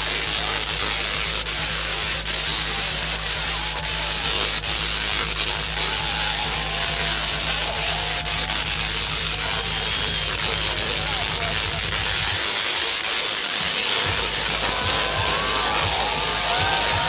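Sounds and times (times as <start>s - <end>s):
electric arcs crackling: 0.0s - 17.0s.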